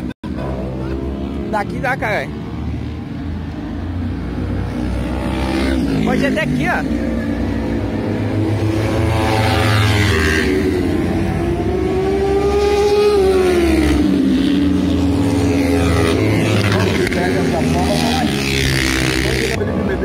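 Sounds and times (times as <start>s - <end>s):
racing motorcycle engine accelerating: 0.0s - 20.0s.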